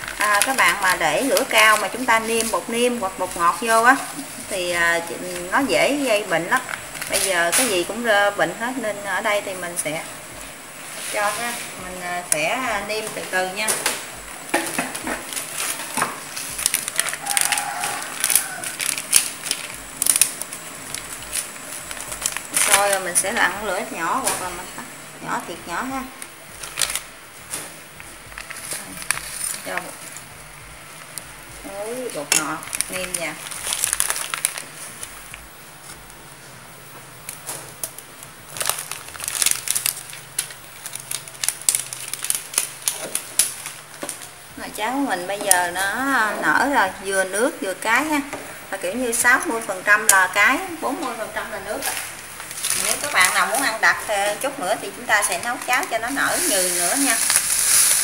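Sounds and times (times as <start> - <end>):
porridge bubbling and popping: 0.0 - 11.0, 11.9 - 46.8, 48.0 - 58.0.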